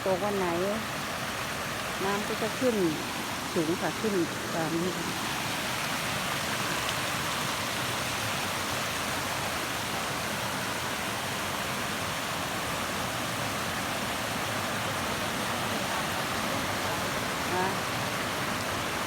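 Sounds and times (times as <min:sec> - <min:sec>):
waterfall roar: 0:00.0 - 0:19.0.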